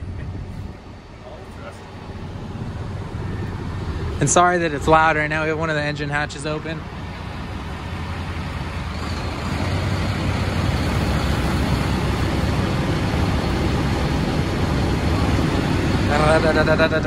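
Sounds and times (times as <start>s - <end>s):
diesel engines running loud: 0.0s - 17.0s.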